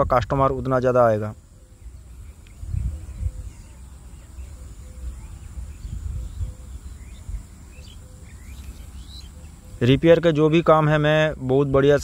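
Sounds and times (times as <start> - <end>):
faint bird chirps: 0.4 - 12.0.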